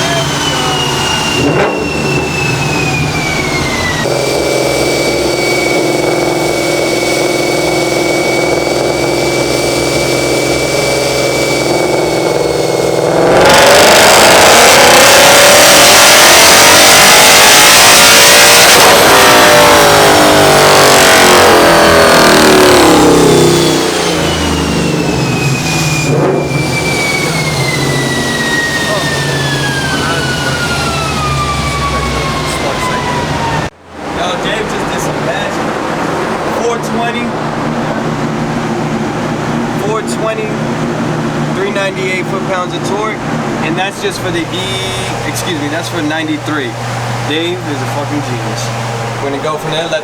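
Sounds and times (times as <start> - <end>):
car engine on a dyno: 0.0 - 50.0.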